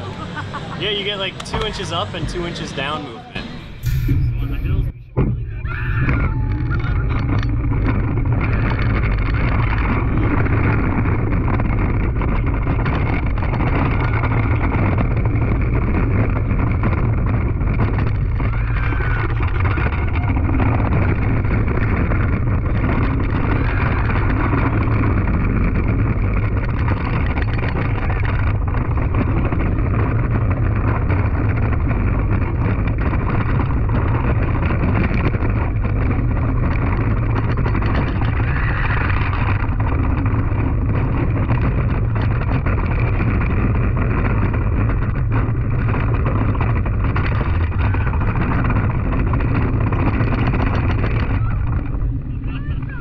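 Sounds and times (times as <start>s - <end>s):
roller coaster rumbling on track: 0.0s - 53.0s
wind buffeting microphone: 0.0s - 53.0s.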